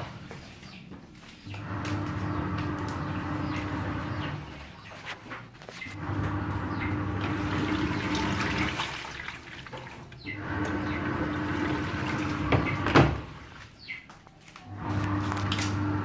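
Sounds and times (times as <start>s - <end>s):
water running into washing machine: 0.0s - 0.8s, 1.4s - 13.8s, 14.7s - 16.0s.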